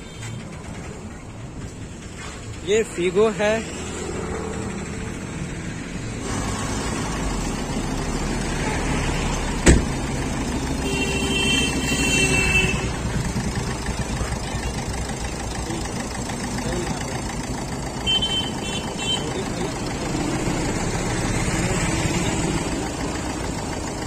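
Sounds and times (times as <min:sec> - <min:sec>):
vehicle engines and traffic rumble: 0:00.0 - 0:24.0.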